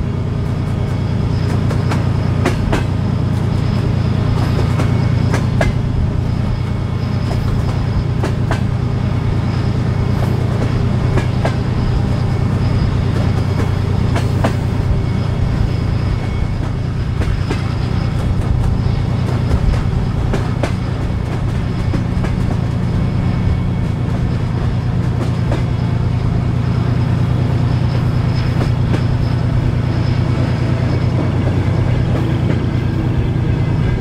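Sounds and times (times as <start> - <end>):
diesel locomotive engine hum: 0.0 - 34.0.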